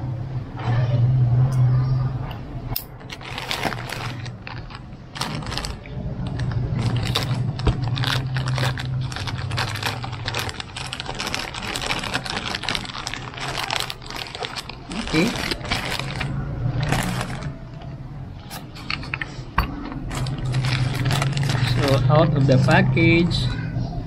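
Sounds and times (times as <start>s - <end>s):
low steady hum: 0.0s - 24.0s
plastic bag crinkling and tearing: 2.9s - 22.7s.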